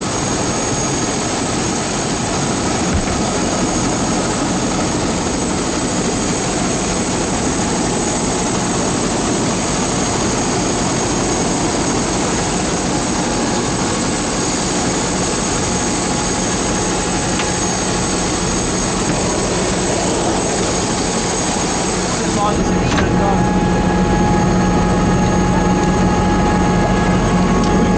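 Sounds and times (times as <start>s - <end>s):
helicopter engine and rotor: 0.0s - 27.9s
thin high whine: 1.8s - 24.6s.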